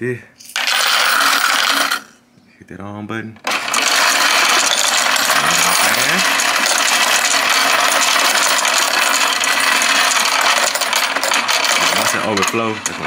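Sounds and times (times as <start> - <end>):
coin sorter clattering: 0.5 - 2.2, 3.4 - 13.0.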